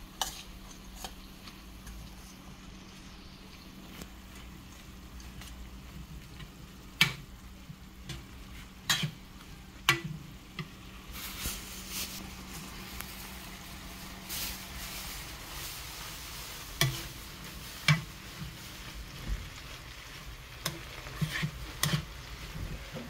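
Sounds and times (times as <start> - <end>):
food sizzling in a frying pan: 0.0 - 23.0
wooden spatula stirring: 0.1 - 23.0.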